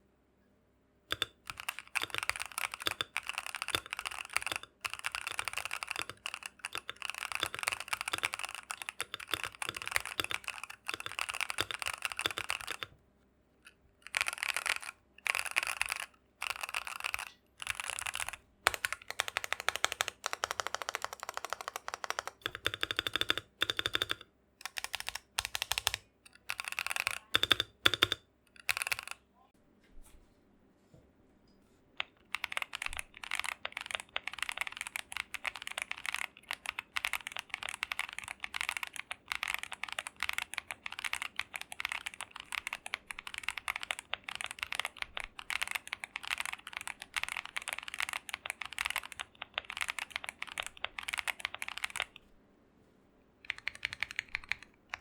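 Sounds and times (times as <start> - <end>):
mechanical keyboard typing: 1.1 - 13.0, 13.6 - 29.2, 32.0 - 52.2, 53.4 - 55.0.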